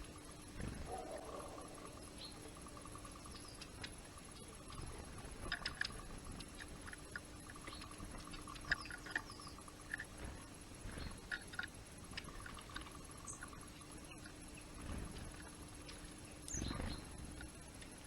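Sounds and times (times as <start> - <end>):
faint steady hum: 0.0 - 18.0
small birds chip calls: 0.0 - 18.0.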